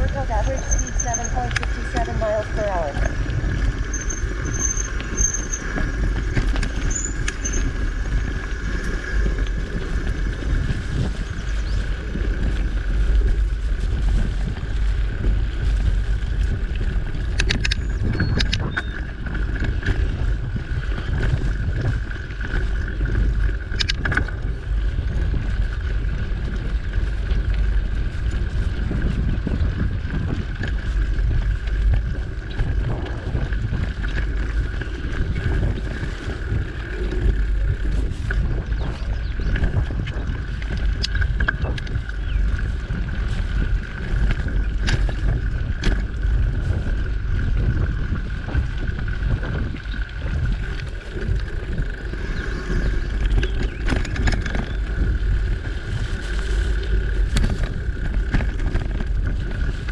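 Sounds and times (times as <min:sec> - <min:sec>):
bike rattles: 0:00.0 - 0:59.9
bike tyre rumble on dirt: 0:00.0 - 0:59.9
higher hum from moving bike: 0:00.0 - 0:59.9
wind buffeting microphone: 0:00.0 - 0:59.9.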